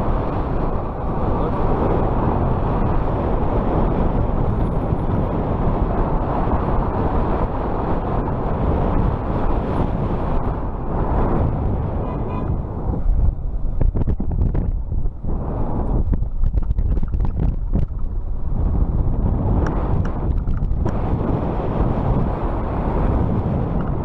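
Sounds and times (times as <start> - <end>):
bike road noise rushing: 0.0 - 24.0
wind buffeting microphone: 0.0 - 24.0.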